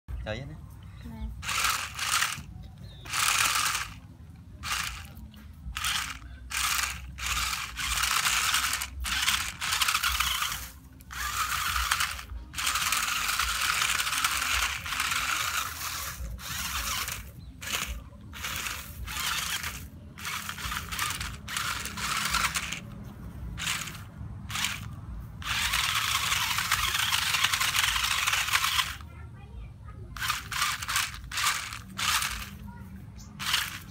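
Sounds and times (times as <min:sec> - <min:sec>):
toy car electric motors whirring: 0:01.4 - 0:29.2, 0:30.1 - 0:33.9.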